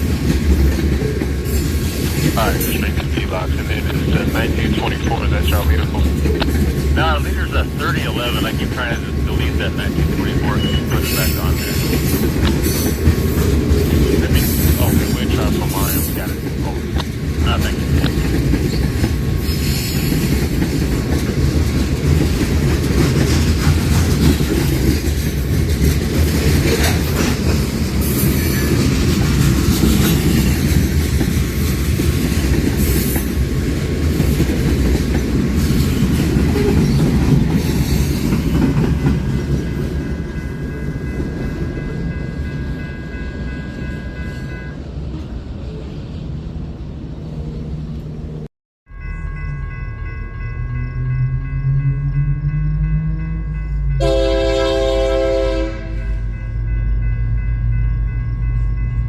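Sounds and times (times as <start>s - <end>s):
train wheels rumbling on rails: 0.0s - 48.4s, 49.0s - 59.0s.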